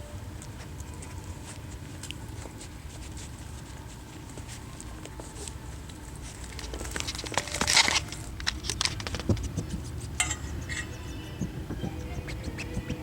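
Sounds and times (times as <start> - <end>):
puppy chewing on a shoe: 0.4 - 13.0
rustling scrape: 0.5 - 11.0.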